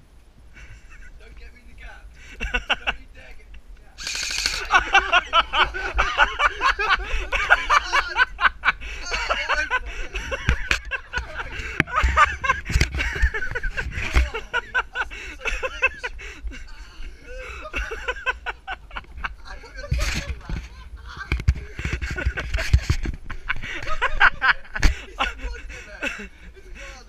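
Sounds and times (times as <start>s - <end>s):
men laughing: 0.6s - 1.2s, 2.1s - 27.0s.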